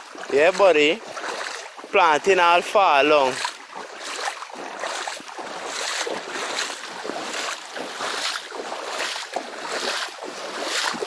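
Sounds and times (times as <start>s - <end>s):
floodwater splashing and sloshing: 0.0s - 11.0s.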